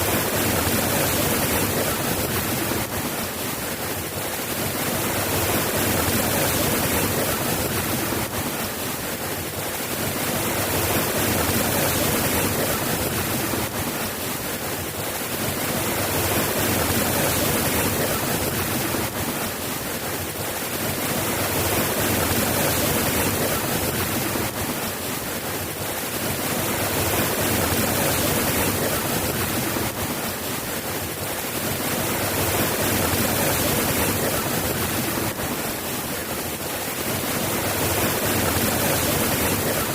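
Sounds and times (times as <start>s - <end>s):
soft rain: 0.0s - 39.9s.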